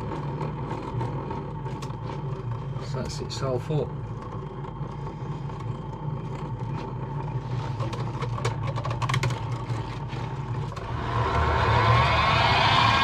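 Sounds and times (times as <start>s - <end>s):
loud motor whir: 0.0s - 8.2s, 9.6s - 13.0s
motor hum: 0.0s - 13.0s.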